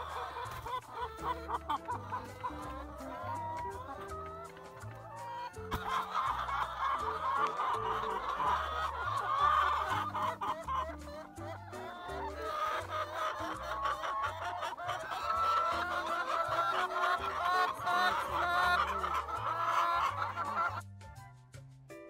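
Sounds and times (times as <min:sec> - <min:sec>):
hens clucking: 0:00.0 - 0:20.8.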